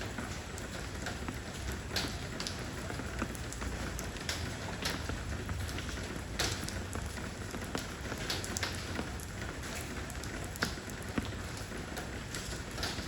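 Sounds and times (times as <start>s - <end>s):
heavy raindrops striking: 0.0s - 13.0s
rain falling on stone paving: 0.0s - 13.0s.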